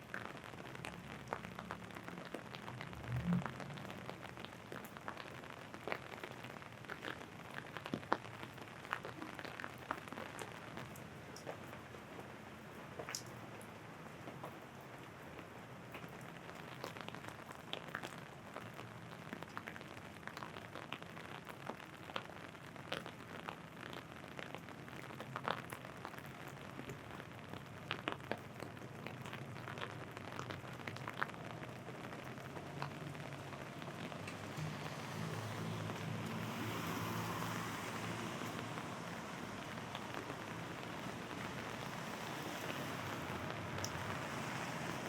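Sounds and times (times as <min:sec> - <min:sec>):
rain hissing on the ground: 0:00.0 - 0:45.0
rain tapping on an umbrella: 0:00.0 - 0:45.0.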